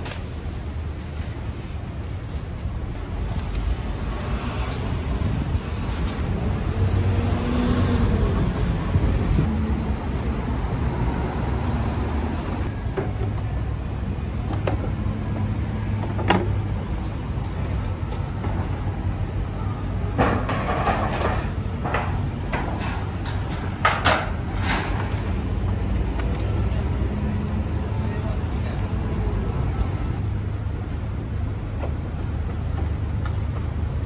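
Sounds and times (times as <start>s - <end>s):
street traffic rumble: 0.0s - 34.0s.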